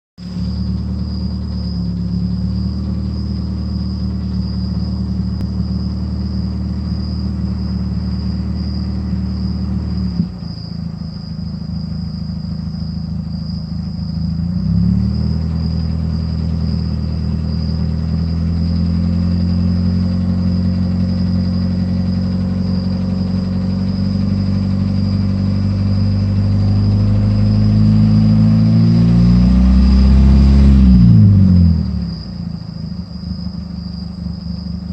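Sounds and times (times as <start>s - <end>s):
car engine idling and revving: 0.2s - 34.9s.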